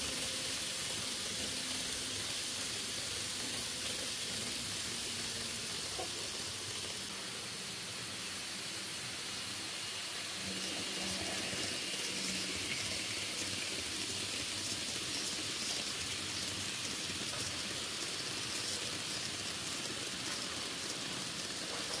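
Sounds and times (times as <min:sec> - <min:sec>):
model train wheels hissing on track: 0:00.0 - 0:22.0.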